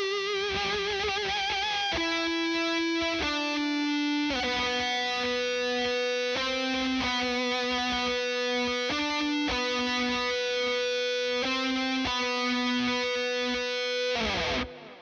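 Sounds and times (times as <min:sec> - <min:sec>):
distorted electric guitar solo: 0:00.0 - 0:15.0.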